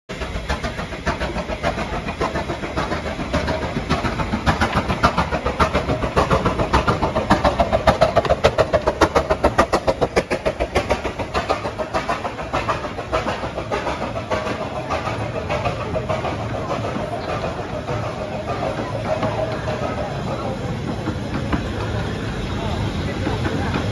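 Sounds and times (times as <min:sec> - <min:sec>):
steam engine chuffing: 0:00.1 - 0:23.9.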